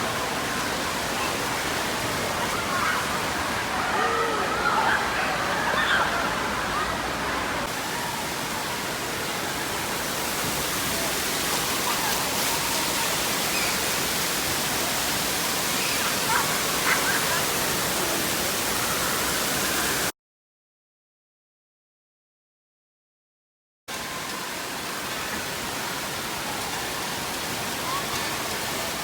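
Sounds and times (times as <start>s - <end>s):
rushing and splashing water: 0.0s - 20.1s, 23.9s - 29.0s.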